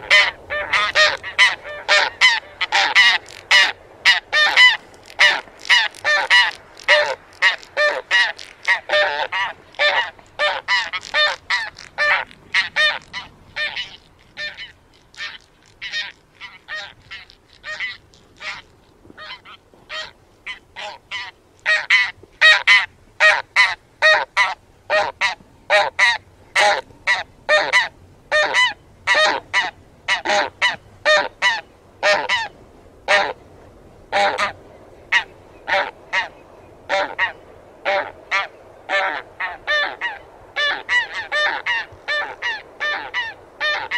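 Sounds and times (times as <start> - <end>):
geese honking in flight: 0.0 - 18.6, 19.2 - 32.5, 33.1 - 33.4, 34.1 - 36.3, 36.9 - 43.9.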